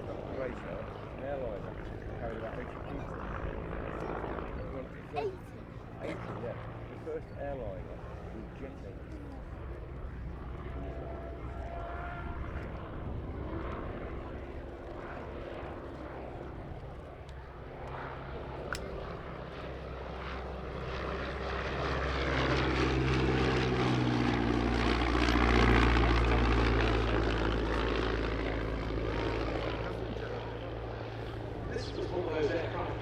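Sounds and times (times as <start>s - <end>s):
biplane engine in flight: 0.0s - 33.0s.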